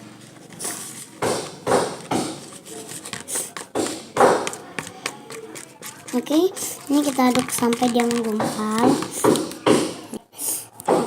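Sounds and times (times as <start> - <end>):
stirrer scraping a container: 0.4 - 10.2.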